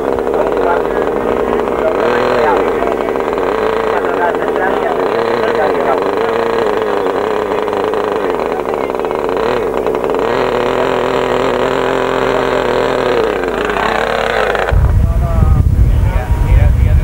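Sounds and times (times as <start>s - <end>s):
model airplane engine buzzing: 0.0s - 17.0s.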